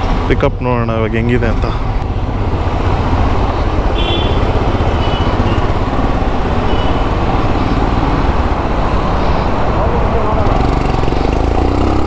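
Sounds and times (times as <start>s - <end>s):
motorcycle engine running: 1.6s - 12.0s.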